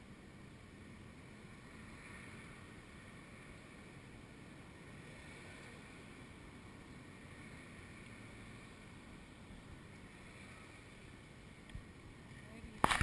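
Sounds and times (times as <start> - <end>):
road traffic hum: 0.0 - 13.0
wind: 0.0 - 13.0.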